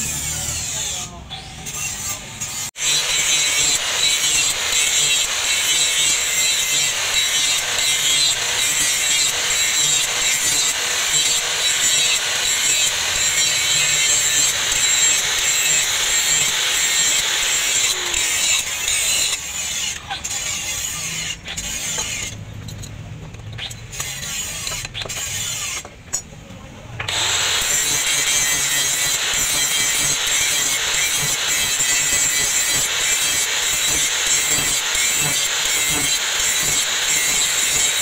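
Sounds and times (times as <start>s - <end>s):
angle grinder grinding steel: 0.0s - 22.9s, 23.5s - 25.9s, 27.1s - 38.0s.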